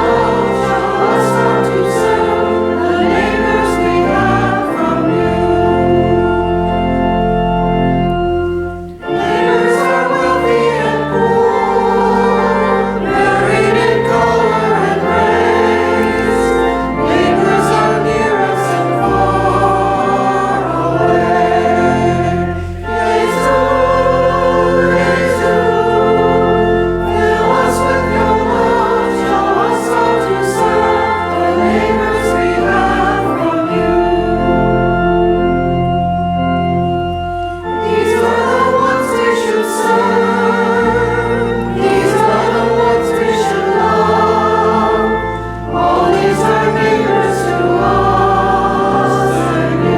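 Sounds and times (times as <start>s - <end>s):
organ chords: 0.0s - 49.9s
voices singing a hymn: 0.0s - 49.9s.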